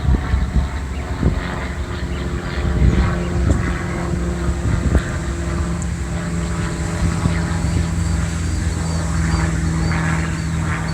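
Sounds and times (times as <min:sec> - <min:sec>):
engine hum: 0:00.0 - 0:10.9.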